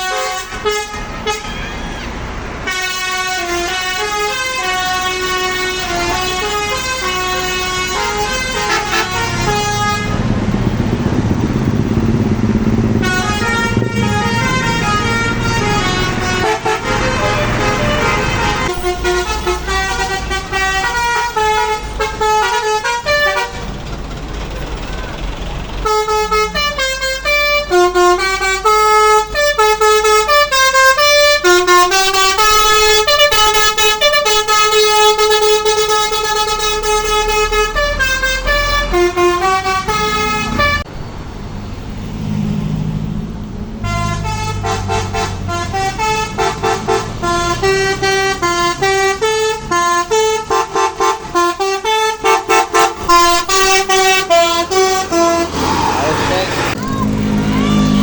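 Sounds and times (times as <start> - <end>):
musical bus horn melody: 0.0 - 23.8, 24.6 - 40.9, 43.8 - 58.0.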